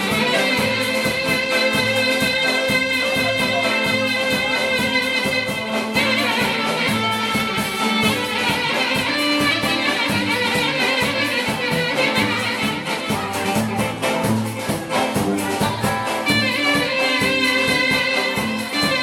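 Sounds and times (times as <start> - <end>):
clarinet melody: 0.0 - 19.0
steady drum beat: 0.0 - 19.0.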